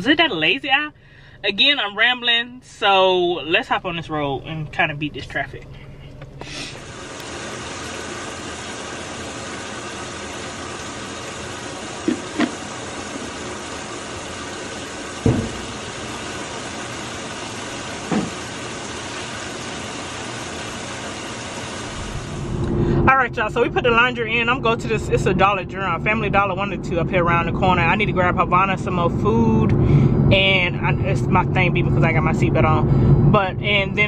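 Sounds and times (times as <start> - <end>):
washing machines and dryers humming: 0.0 - 34.0.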